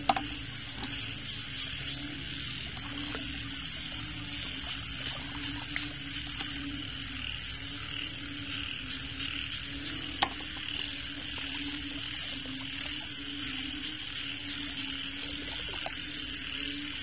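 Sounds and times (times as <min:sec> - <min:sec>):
high insect trill: 0:00.0 - 0:17.0
pulsing frog chorus: 0:00.0 - 0:17.0.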